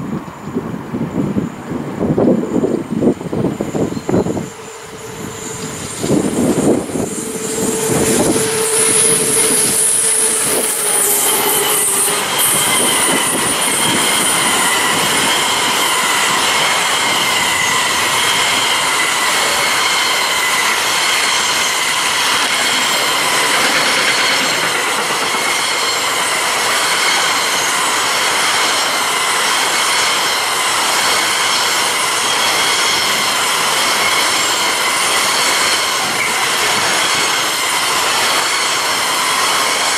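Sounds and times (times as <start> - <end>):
locomotive hum and whine: 0.0 - 39.9
train wheels squealing and clattering: 0.2 - 39.9.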